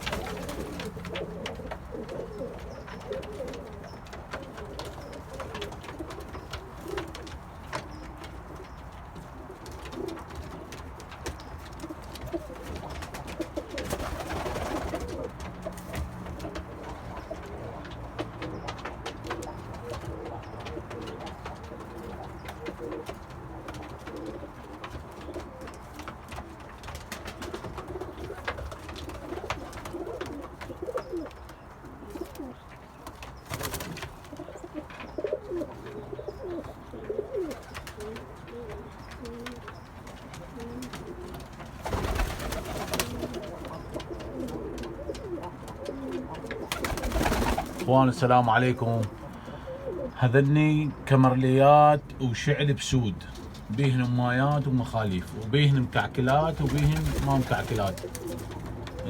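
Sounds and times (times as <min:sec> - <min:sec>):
pigeons cooing: 0:00.0 - 0:52.1, 0:53.2 - 0:59.0.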